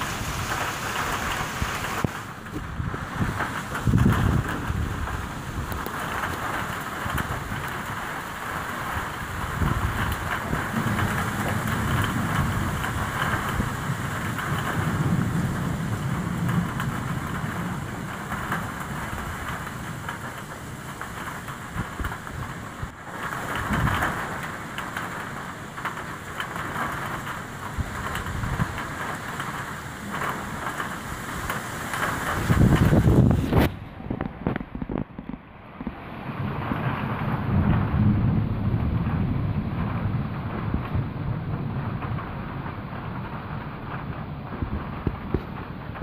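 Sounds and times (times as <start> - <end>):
steady rain falling: 0.0 - 46.0
wind rumbling on microphone: 0.0 - 46.0.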